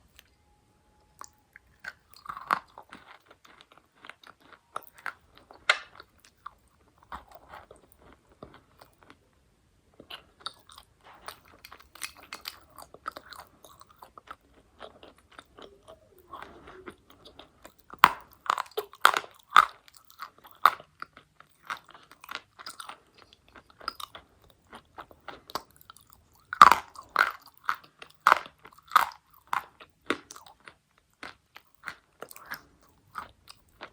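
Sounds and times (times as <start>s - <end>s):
chalk crunching being chewed: 1.2s - 9.2s, 10.0s - 33.9s.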